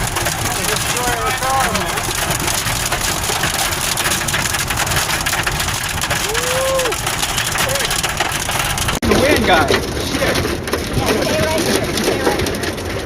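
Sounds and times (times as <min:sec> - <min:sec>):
heavy rain on vehicle roof: 0:00.0 - 0:13.0.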